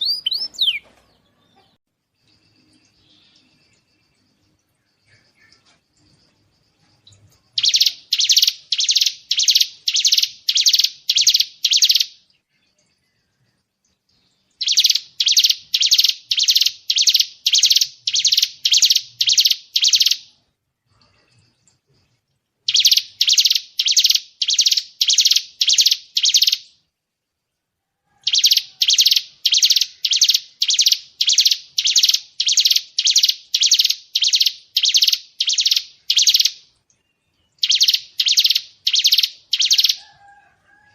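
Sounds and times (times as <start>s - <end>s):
songbird high-pitched call: 0.0s - 1.8s, 2.4s - 13.6s, 14.5s - 20.3s, 22.7s - 26.7s, 28.1s - 40.4s.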